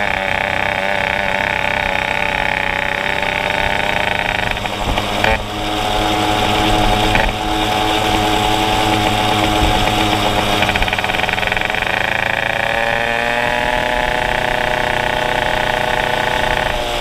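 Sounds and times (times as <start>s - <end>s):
moped engine buzzing: 0.0s - 17.0s.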